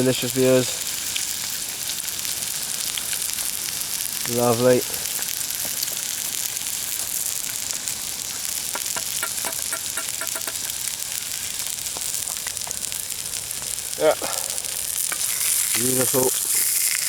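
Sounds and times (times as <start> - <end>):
burgers sizzling in a pan: 0.0 - 17.0.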